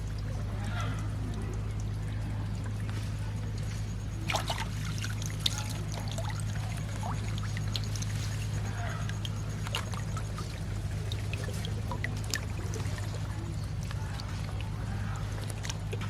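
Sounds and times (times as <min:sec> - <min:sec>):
shallow water splashing and trickling: 0:00.0 - 0:16.0
steady low hum: 0:00.0 - 0:16.0.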